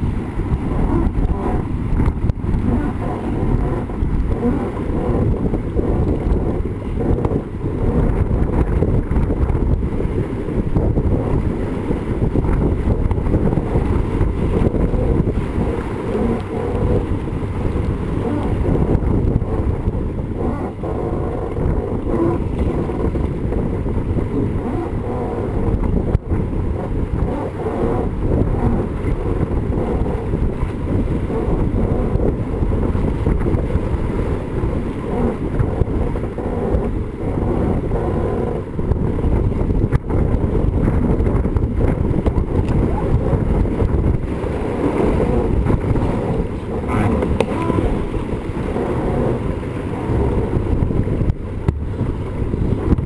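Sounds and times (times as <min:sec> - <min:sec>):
water rushing past hull: 0:00.0 - 0:53.0
wind buffeting microphone: 0:00.0 - 0:53.0.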